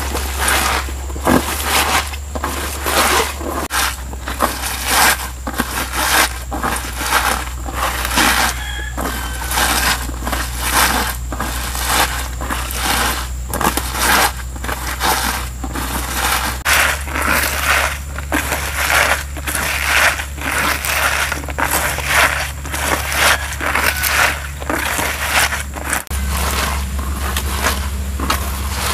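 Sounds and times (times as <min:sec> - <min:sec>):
stems rubbed against bamboo basket: 0:00.0 - 0:28.9.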